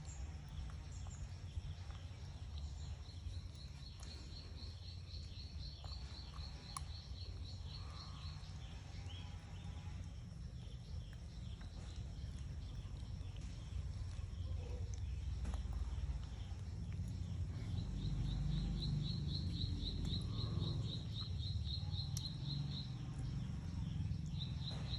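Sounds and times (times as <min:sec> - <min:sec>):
low outdoor rumble: 0:00.0 - 0:24.9.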